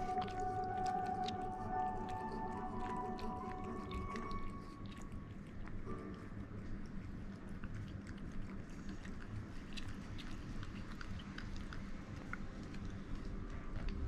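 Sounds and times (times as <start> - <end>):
cat licking and smacking: 0.0 - 14.0.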